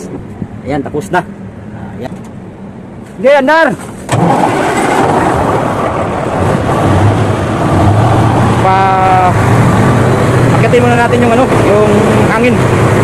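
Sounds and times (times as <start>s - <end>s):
truck engine starting and running: 2.1s - 13.0s.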